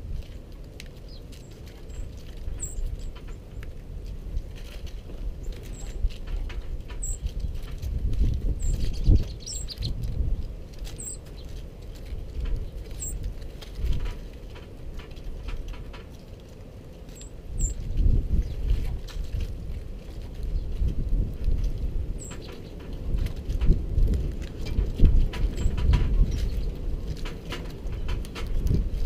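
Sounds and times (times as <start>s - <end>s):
beaks and feet tapping on wood: 0.1s - 29.0s.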